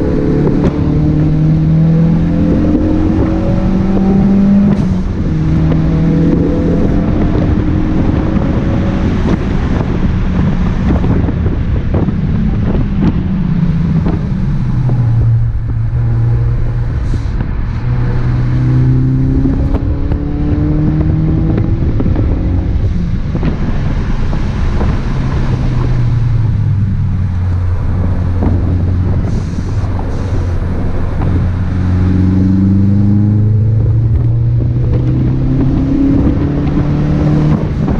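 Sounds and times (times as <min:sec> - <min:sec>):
car engine accelerating: 0:00.0 - 0:37.9
tyre and wind noise: 0:00.0 - 0:37.9.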